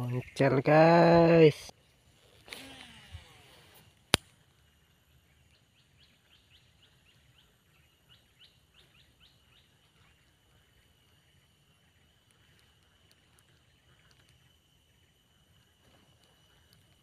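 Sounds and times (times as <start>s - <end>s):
bird chirping: 0.0s - 1.7s, 4.8s - 17.0s.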